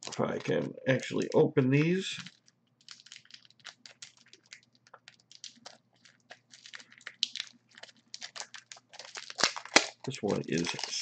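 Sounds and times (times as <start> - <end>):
packaging crinkling and clicking: 0.0 - 11.0.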